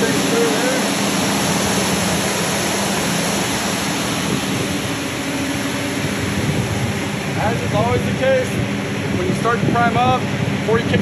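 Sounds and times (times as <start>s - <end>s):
low hum: 0.0s - 11.0s
pump truck rushing water: 0.0s - 11.0s.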